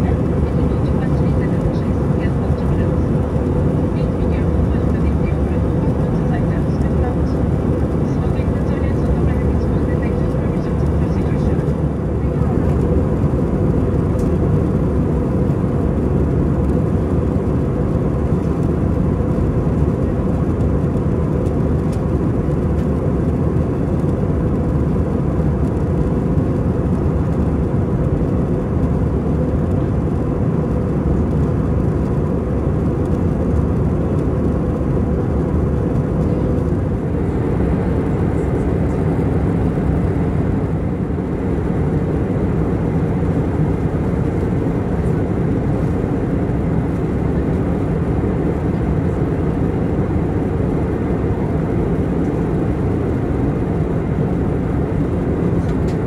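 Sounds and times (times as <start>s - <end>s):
airliner cabin engine rush: 0.0s - 56.0s.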